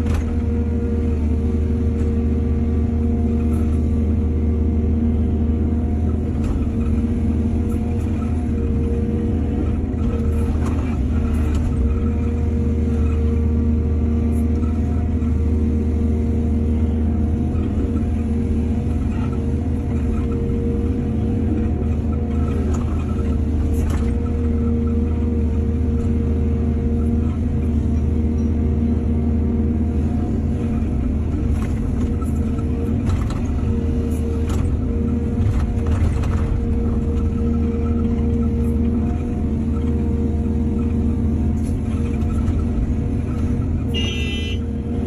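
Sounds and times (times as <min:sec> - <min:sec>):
heavy diesel engine under load: 0:00.0 - 0:45.0.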